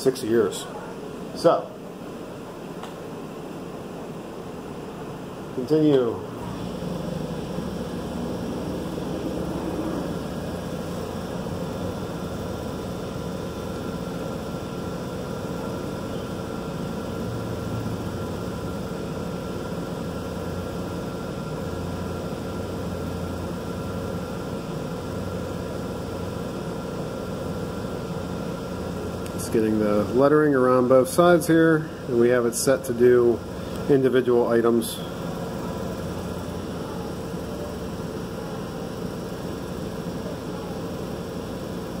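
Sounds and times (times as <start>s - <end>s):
laser engraver pump and blower hum: 0.0s - 42.0s.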